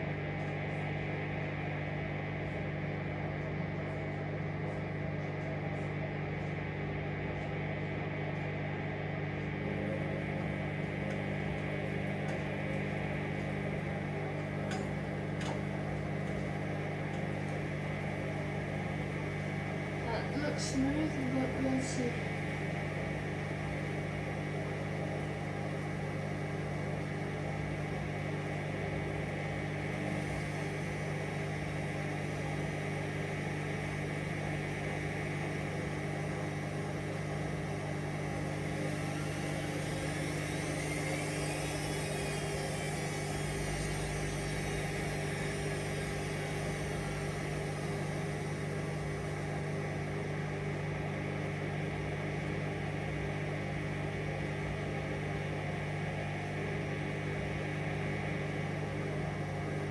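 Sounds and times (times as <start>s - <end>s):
washing machine drum spinning: 9.7s - 59.9s.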